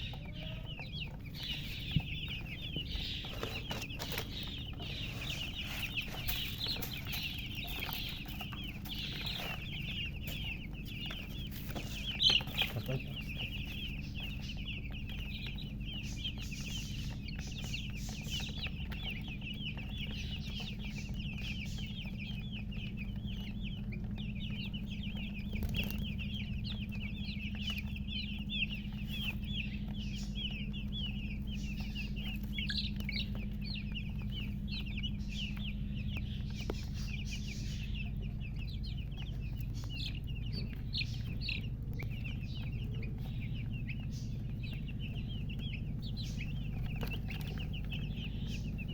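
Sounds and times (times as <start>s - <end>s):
chicks peeping: 0.0s - 48.9s
steady low hum: 0.0s - 48.9s.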